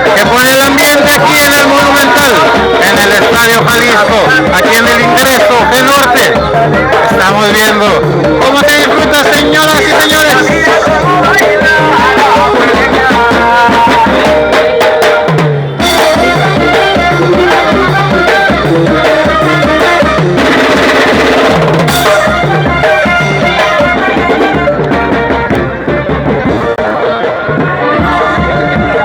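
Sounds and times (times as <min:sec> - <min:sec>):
hand percussion: 0:00.0 - 0:27.0
latin band playing: 0:00.0 - 0:29.0.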